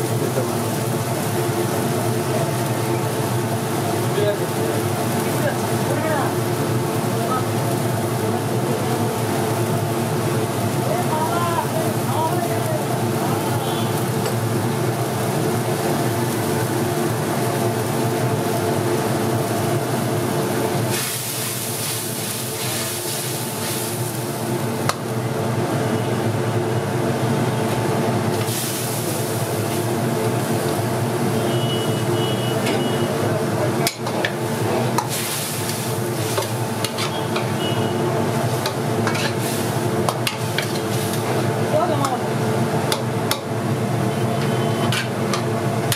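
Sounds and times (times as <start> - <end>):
food sizzling in a pot: 0.0 - 45.9.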